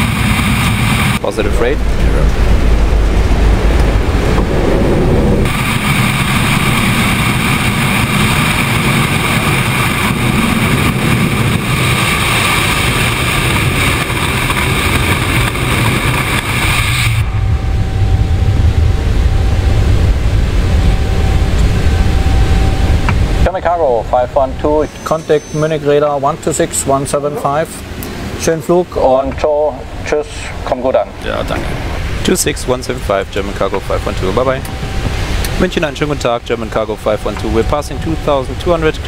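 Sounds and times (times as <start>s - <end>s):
low cockpit rumble: 0.0s - 39.0s
rushing airflow and jet engine noise: 0.0s - 39.0s.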